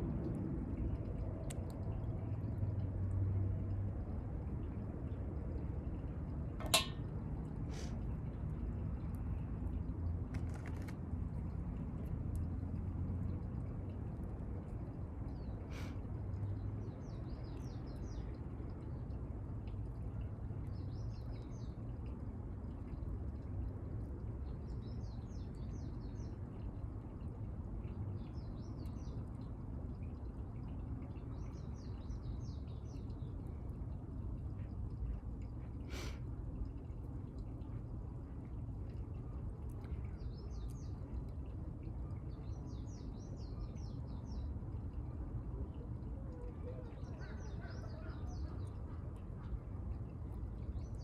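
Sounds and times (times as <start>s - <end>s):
low background rumble: 0.0s - 51.0s.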